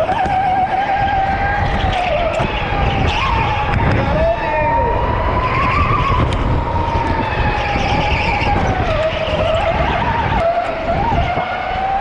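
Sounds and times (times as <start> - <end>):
low rumble of kart on track: 0.0 - 12.0.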